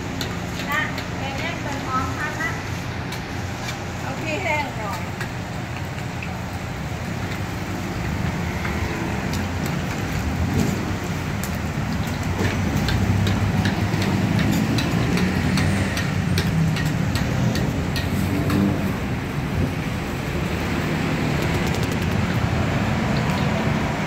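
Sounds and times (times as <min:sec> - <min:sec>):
fire and frying rumble: 0:00.0 - 0:24.0.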